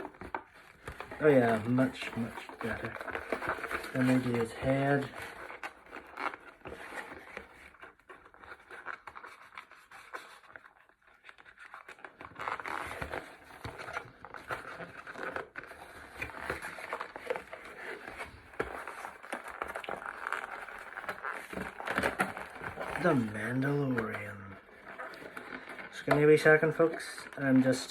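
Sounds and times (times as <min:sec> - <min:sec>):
plastic packaging scratching: 0:00.0 - 0:27.9.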